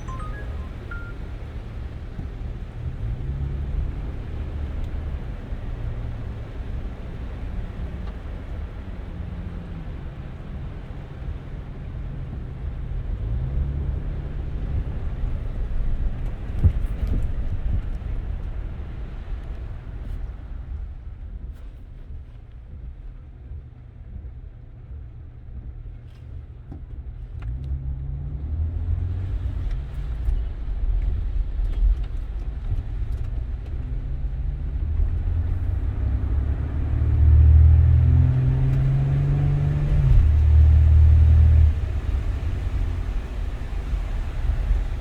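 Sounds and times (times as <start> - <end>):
car engine accelerating: 0.0 - 20.2, 26.1 - 45.0.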